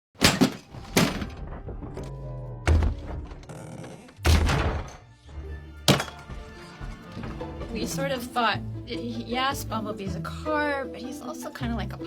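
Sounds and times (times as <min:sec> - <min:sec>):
music: 0:00.4 - 0:03.4, 0:04.2 - 0:12.0.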